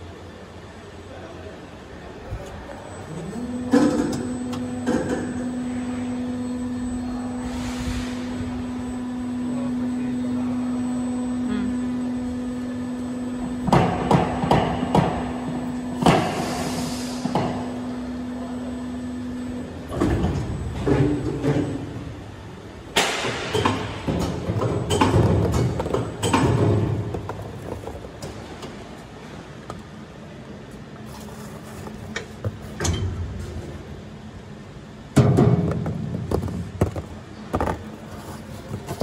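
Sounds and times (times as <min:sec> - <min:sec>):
machine humming: 0:02.6 - 0:39.0.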